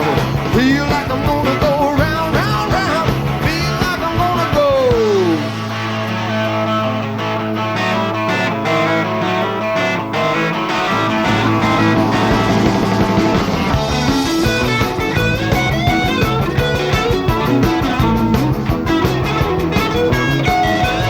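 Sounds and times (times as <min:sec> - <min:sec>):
bass guitar: 0:00.0 - 0:21.0
drums: 0:00.0 - 0:21.0
electric guitars: 0:00.0 - 0:21.0.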